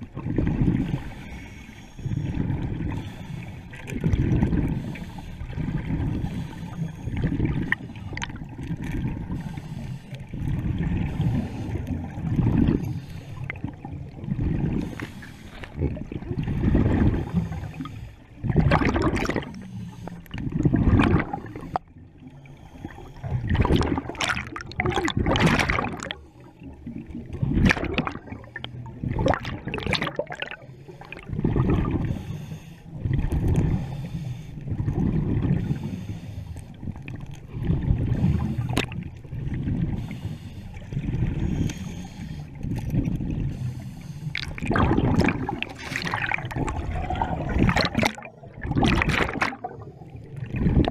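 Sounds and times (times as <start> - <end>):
exhaled bubbles gurgling: 0.0 - 50.9
regulator breathing underwater: 0.8 - 8.4, 9.2 - 24.7, 25.8 - 27.1, 30.2 - 37.0, 37.6 - 48.5.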